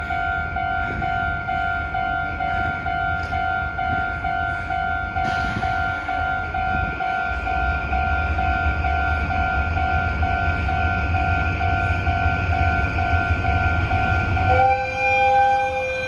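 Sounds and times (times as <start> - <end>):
steady low rumble: 0.0 - 14.5
level-crossing alarm bell: 0.0 - 16.0.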